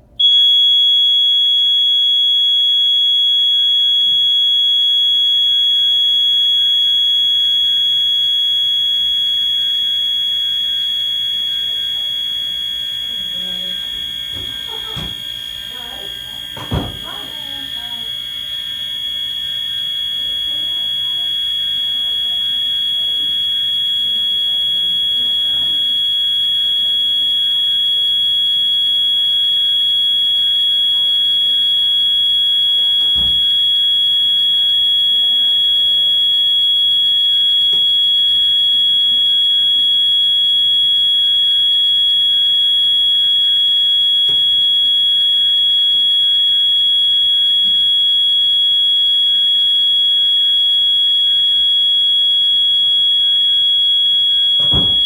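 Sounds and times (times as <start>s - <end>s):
fire alarm high-pitched tone: 0.0s - 55.0s.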